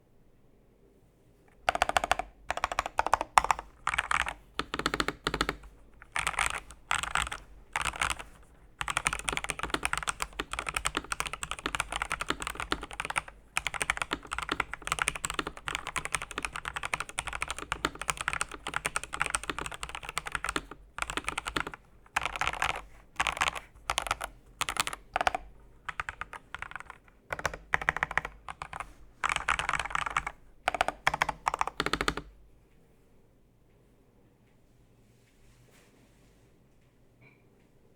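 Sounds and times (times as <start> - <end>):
mechanical keyboard typing: 1.5 - 32.4.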